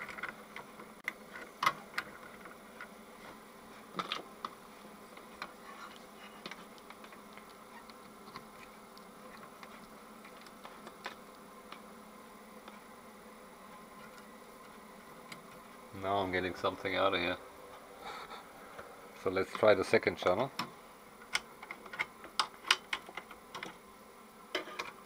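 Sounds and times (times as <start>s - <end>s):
faint buzzing hum: 0.0s - 25.0s.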